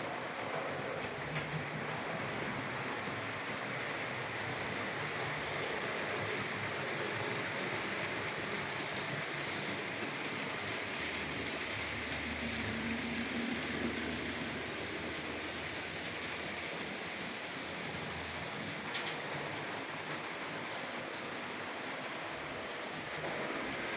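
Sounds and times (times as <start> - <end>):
model train motors whirring: 0.0 - 23.9.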